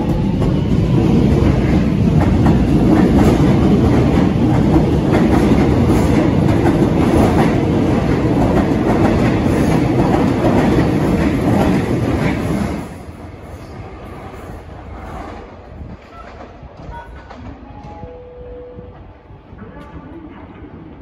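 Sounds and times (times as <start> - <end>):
train clatter: 0.0 - 21.0
train wheels rumbling on rails: 0.0 - 21.0.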